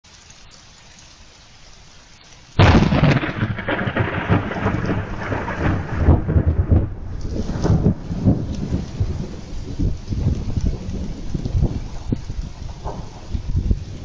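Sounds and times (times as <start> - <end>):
steady rain: 0.0 - 14.0
thunderclap rolling: 2.6 - 14.0.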